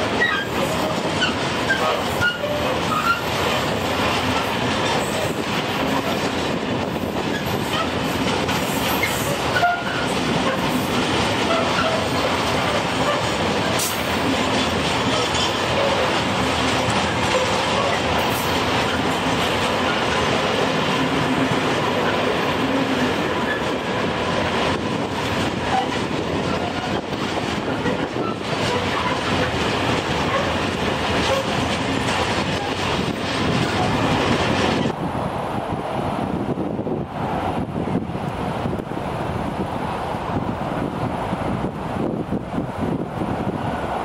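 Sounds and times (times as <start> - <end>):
train wheels on rails: 0.0 - 44.0.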